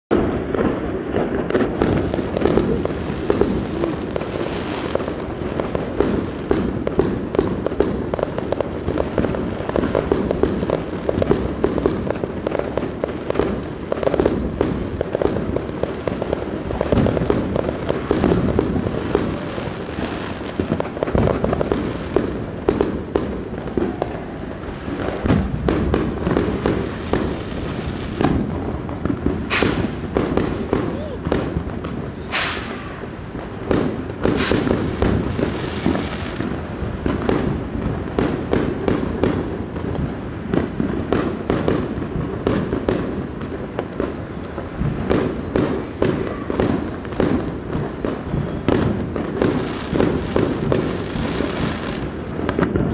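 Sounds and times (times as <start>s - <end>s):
fireworks and firecrackers banging: 0.1s - 52.9s.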